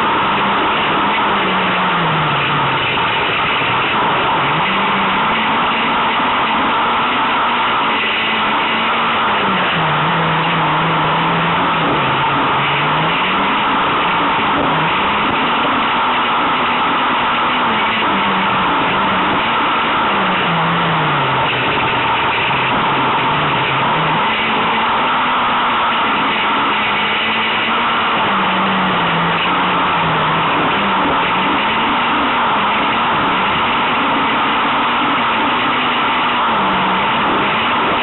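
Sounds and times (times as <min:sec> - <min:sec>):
car engine revving: 0:00.0 - 0:38.0
loud rushing noise: 0:00.0 - 0:38.0.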